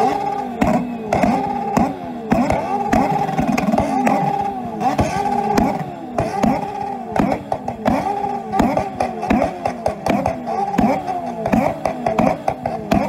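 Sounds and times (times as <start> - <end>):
exhaust crack: 0.0 - 13.0
motorcycle engines revving: 0.0 - 13.0.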